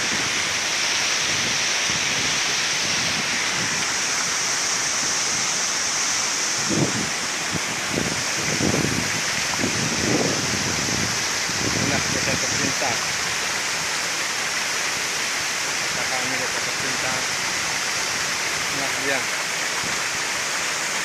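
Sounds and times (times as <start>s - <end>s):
river water over rocks: 0.0s - 21.0s
waterfall rushing: 0.0s - 21.0s.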